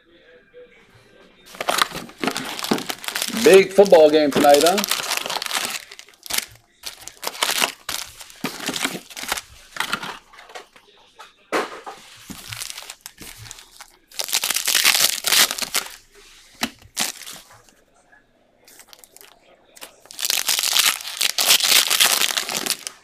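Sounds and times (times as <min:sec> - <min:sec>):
foil wrappers crinkling and tearing: 0:01.5 - 0:10.7, 0:12.0 - 0:17.7, 0:18.7 - 0:23.0.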